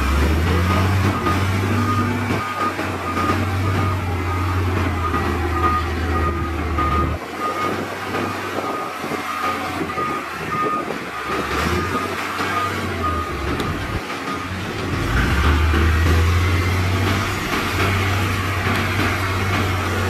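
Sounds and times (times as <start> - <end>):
diesel engine drone: 0.0 - 20.0
reversing alarm beeping: 0.0 - 20.0.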